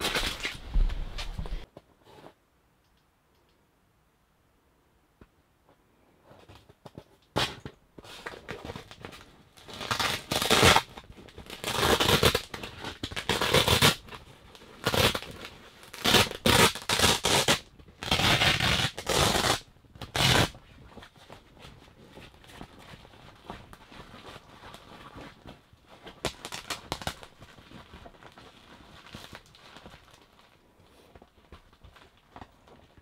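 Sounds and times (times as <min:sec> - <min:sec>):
canvas rustling: 0:00.0 - 0:01.7, 0:08.0 - 0:33.0.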